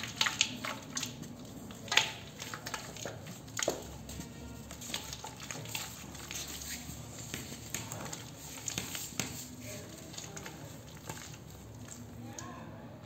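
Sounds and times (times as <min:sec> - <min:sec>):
clay crumbs pattering into bowl: 0:00.0 - 0:12.5.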